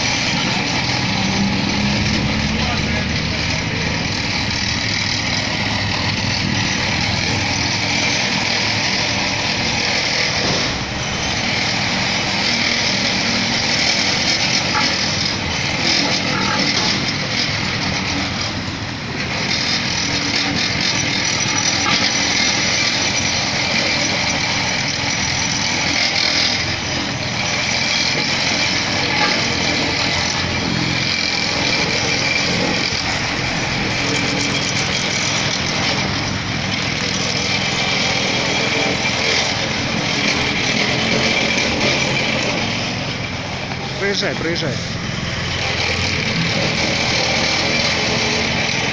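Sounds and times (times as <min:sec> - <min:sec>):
machinery engine running: 0:00.0 - 0:48.9.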